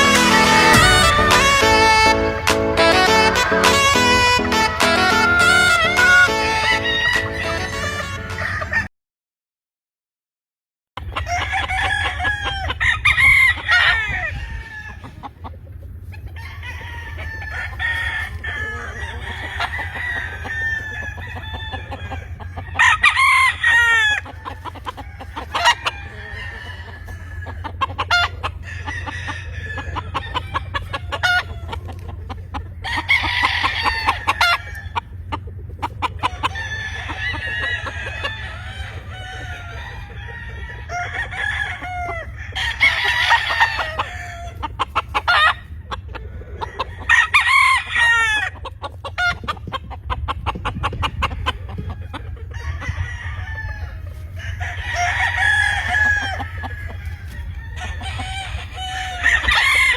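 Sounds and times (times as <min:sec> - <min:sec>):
chickens clucking: 0:00.0 - 0:08.9, 0:11.0 - 0:59.9
roosters crowing: 0:00.0 - 0:08.9, 0:11.0 - 0:15.4, 0:16.1 - 0:59.9.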